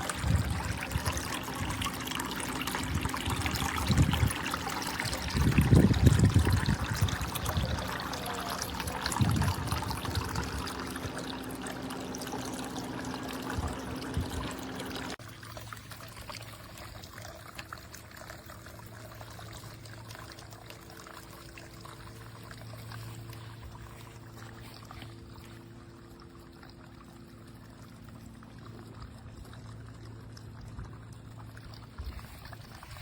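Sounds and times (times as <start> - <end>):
faint steady hum: 0.0 - 33.0
water trickling down fountain: 0.0 - 33.0.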